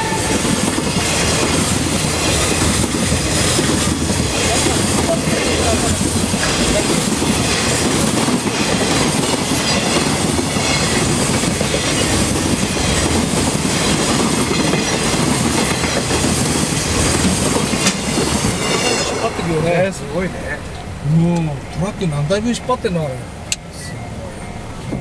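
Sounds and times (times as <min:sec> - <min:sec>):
train wheels rolling over rails: 0:00.0 - 0:22.0.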